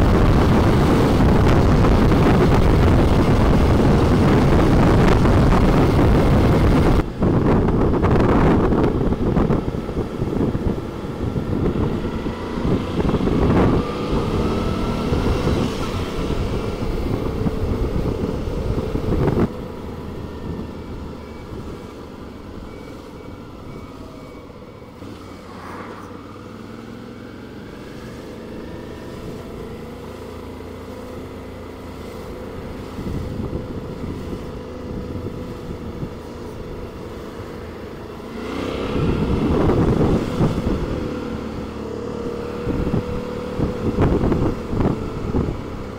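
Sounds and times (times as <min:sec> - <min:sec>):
town traffic: 0:00.0 - 0:45.9
wind noise on microphone: 0:00.0 - 0:45.9.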